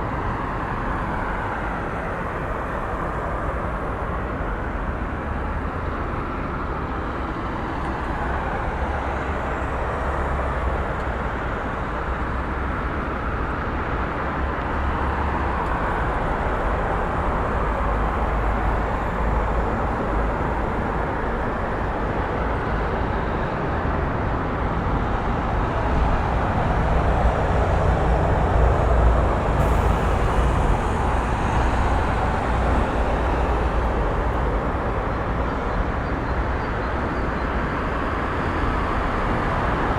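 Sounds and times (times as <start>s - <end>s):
vehicle rumble: 0.0s - 39.9s.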